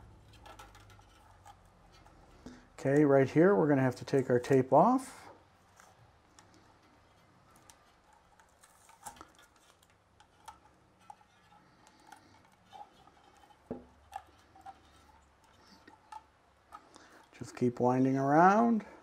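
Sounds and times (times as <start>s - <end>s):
light clicks and rustles: 0.2s - 19.0s.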